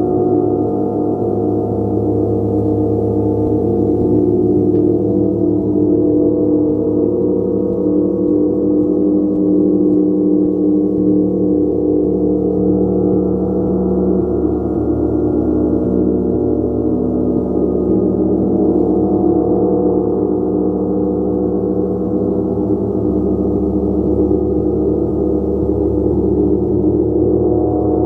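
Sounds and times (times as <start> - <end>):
sustained gong tones: 0.0 - 28.0.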